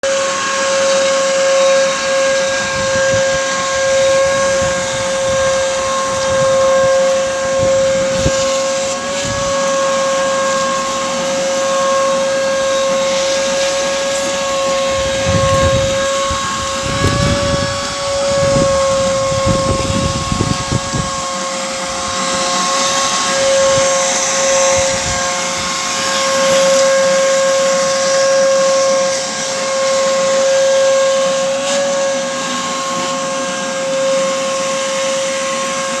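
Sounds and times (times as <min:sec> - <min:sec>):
electric motor whining: 0:00.1 - 0:36.0.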